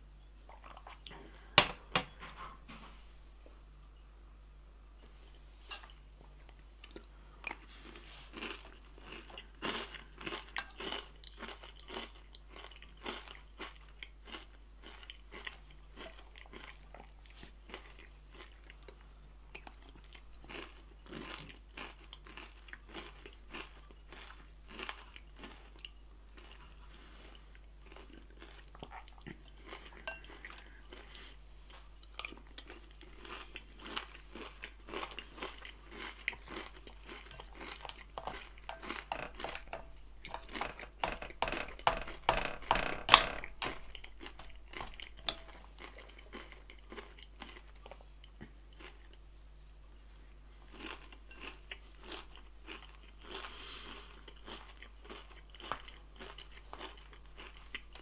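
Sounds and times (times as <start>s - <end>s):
person chewing crunchy food: 5.7s - 49.3s, 50.6s - 58.0s.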